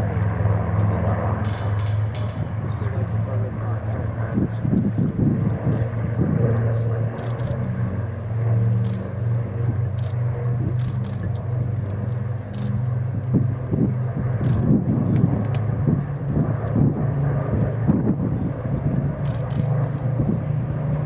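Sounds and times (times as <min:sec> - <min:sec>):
engine droning: 0:00.0 - 0:21.0.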